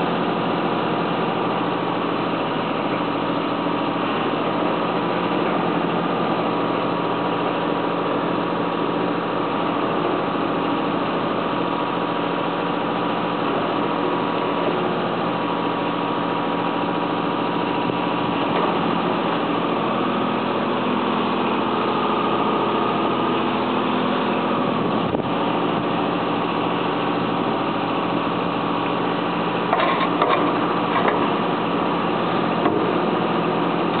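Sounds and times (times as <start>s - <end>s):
digger engine running: 0.0s - 34.0s.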